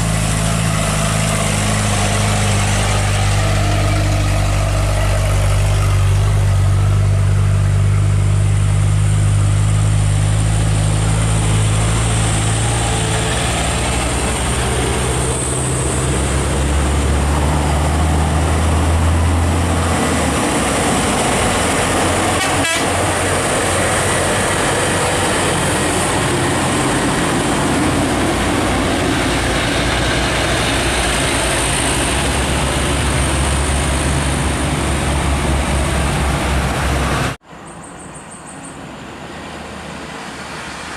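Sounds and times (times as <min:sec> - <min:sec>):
diesel truck engine droning: 0:00.0 - 0:37.4
road noise: 0:00.0 - 0:40.9.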